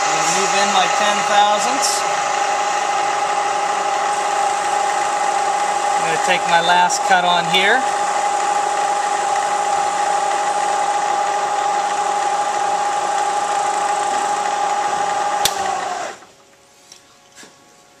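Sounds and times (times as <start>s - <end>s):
milling machine spindle whine: 0.0s - 16.3s.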